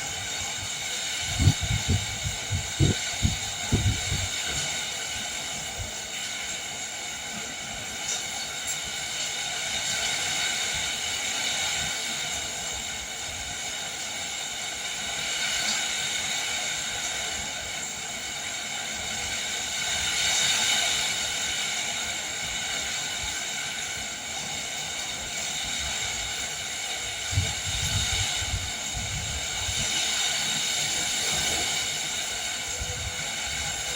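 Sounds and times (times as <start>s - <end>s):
rain falling with wind: 0.0s - 33.9s.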